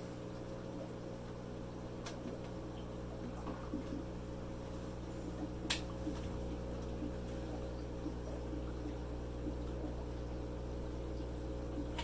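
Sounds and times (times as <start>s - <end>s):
aquarium air pumps humming: 0.0s - 12.0s.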